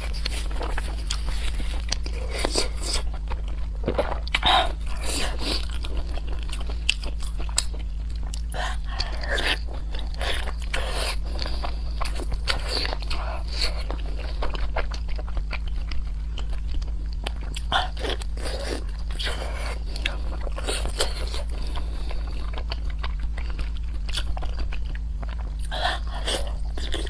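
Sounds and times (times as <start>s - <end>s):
person chewing crunchy food: 0.0s - 27.0s
steady low hum: 0.0s - 27.0s.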